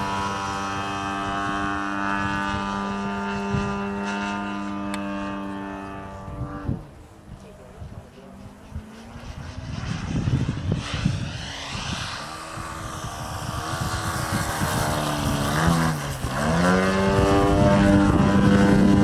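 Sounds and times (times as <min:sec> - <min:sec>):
model plane propeller engine: 0:00.0 - 0:19.0.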